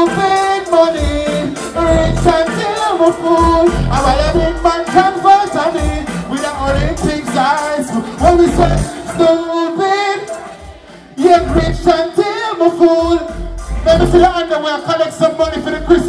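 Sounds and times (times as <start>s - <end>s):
person singing: 0.0s - 14.4s
bass-heavy dancehall beat: 0.0s - 16.0s.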